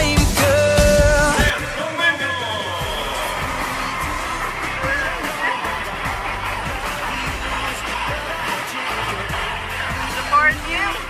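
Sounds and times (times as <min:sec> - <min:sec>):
pop music with steady beat: 0:00.0 - 0:11.0.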